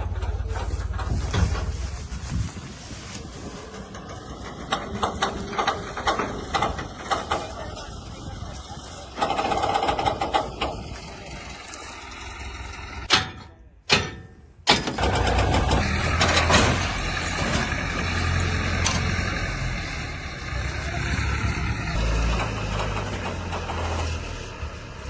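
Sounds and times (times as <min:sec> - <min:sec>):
diesel engine running: 0:00.0 - 0:13.1, 0:14.9 - 0:25.0.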